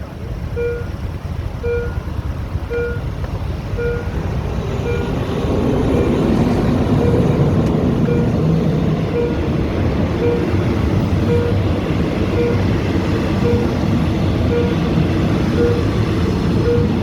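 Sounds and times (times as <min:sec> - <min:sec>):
train rumble: 0:00.0 - 0:17.0
warning signal beeping: 0:00.5 - 0:04.2, 0:04.8 - 0:05.2, 0:07.0 - 0:07.4, 0:08.0 - 0:17.0.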